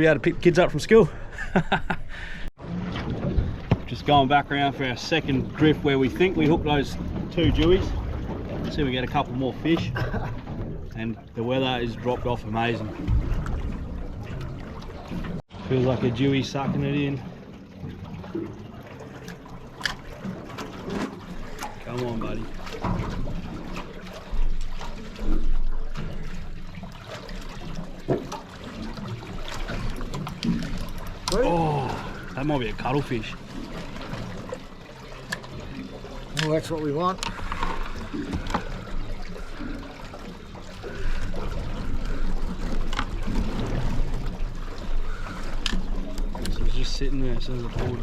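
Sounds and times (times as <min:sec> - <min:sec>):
water lapping against boat hull: 0:00.0 - 0:48.0.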